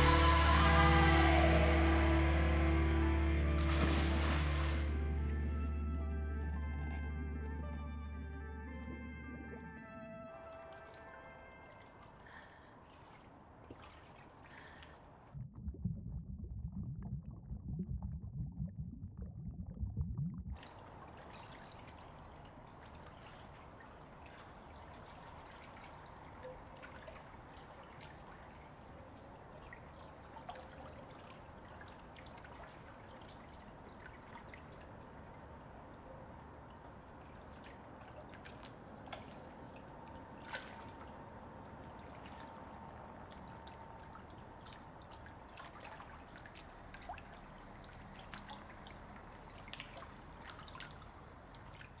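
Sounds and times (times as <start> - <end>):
pool water lapping: 0.0 - 15.4, 20.6 - 52.0
small drips and clicks: 5.3 - 15.9, 16.6 - 52.0.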